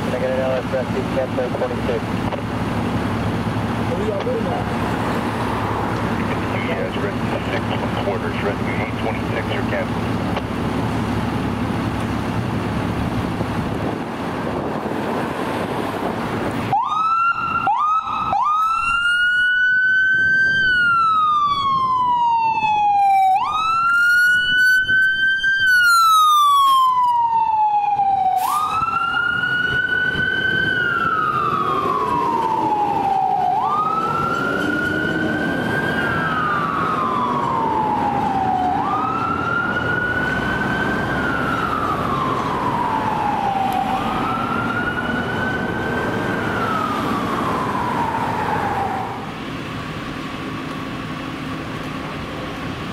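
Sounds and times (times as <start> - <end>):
fire engine siren wailing: 0.0 - 52.9
street noise: 0.0 - 52.9.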